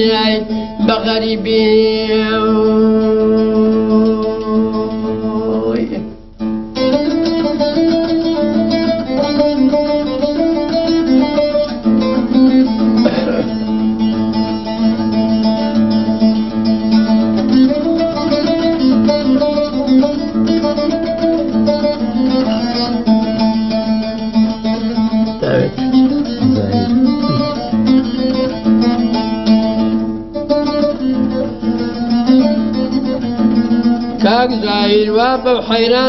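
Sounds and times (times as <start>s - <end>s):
plucked string melody: 0.0s - 36.0s.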